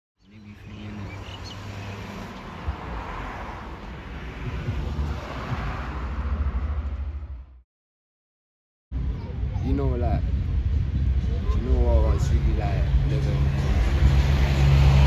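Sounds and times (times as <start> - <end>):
traffic rush: 0.2 - 7.6, 8.9 - 15.0.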